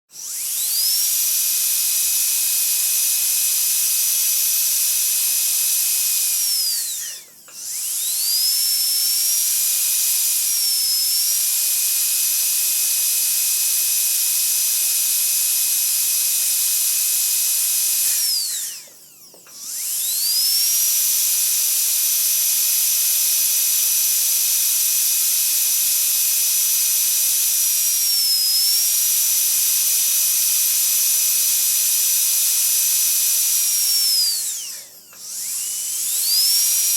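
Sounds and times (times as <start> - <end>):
dental drill whining: 0.1 - 36.9.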